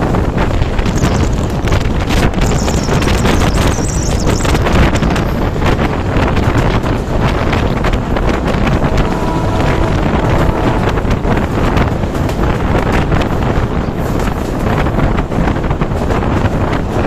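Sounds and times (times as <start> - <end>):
train wheels rattling on rails: 0.0 - 17.0
wind buffeting microphone: 0.0 - 17.0.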